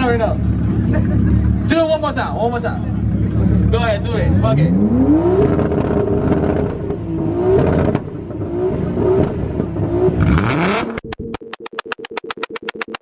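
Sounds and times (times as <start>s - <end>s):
car engine revving: 0.0s - 12.9s.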